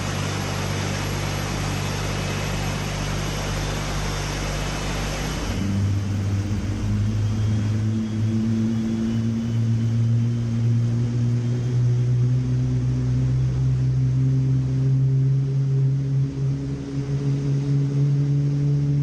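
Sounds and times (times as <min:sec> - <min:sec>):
jet engine starting up: 0:00.0 - 0:19.0.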